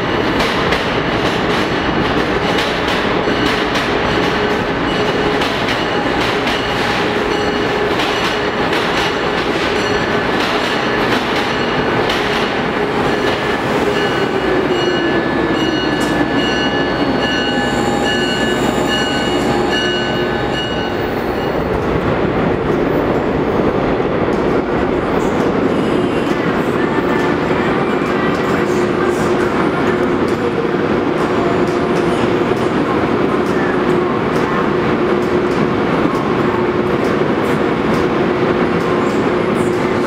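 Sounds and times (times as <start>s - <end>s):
train humming tone: 0.0s - 40.0s
train rolling past: 0.0s - 40.0s.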